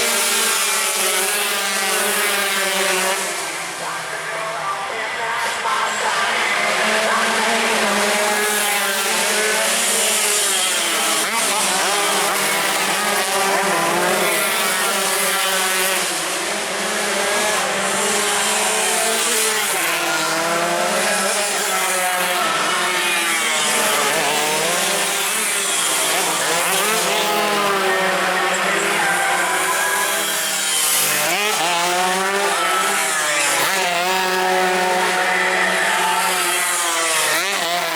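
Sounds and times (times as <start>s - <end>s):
motorcycles racing at full throttle: 0.0s - 37.9s.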